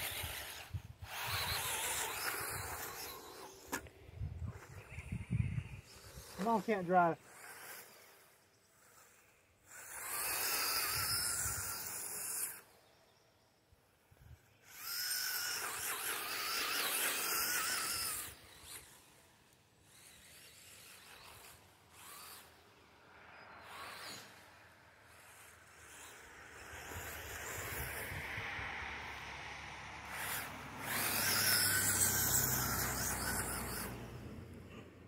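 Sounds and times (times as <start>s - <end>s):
toy car electric motor whining: 0.0s - 29.3s, 30.0s - 34.8s.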